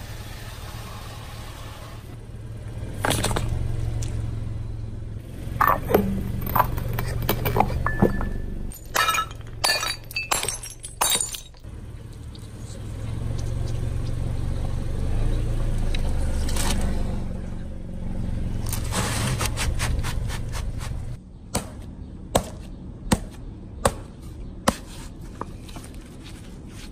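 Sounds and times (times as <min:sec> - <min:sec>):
car engine rumbling: 0:00.0 - 0:26.7.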